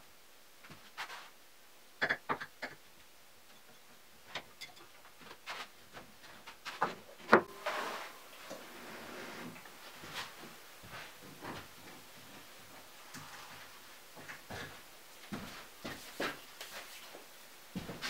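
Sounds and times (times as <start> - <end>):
soft hiss: 0.0 - 2.0, 2.8 - 18.0.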